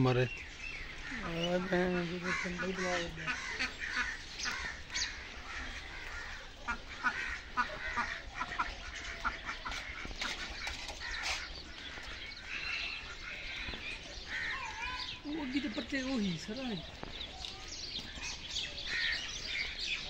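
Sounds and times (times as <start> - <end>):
farmyard birds calling: 0.0 - 20.0.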